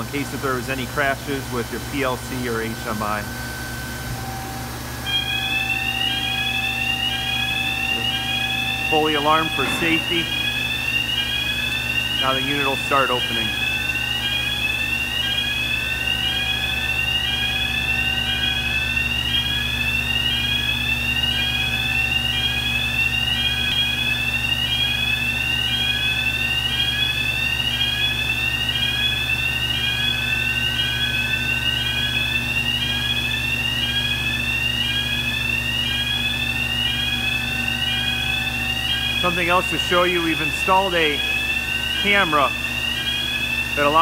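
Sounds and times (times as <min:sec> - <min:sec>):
steady low hum: 0:00.0 - 0:44.0
rising whoop alarm: 0:03.8 - 0:44.0.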